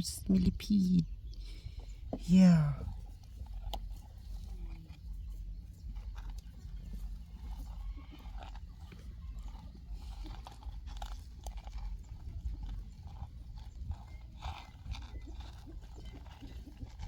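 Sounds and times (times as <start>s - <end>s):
steady low rumble: 0.0s - 17.0s
dry ground litter crackling: 0.8s - 17.0s.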